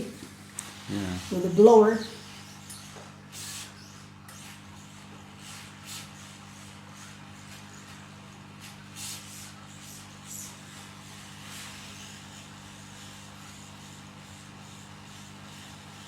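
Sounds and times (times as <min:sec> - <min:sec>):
hot air station fan hum: 0:00.0 - 0:16.0.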